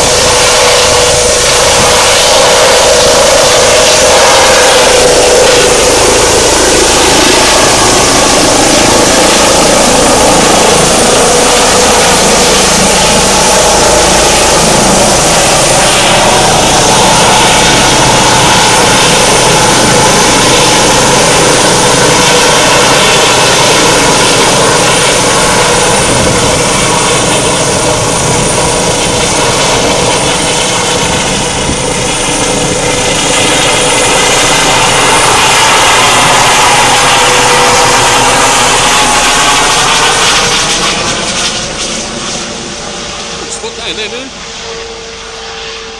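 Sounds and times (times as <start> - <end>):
helicopter turbine and rotor noise: 0.0 - 45.9.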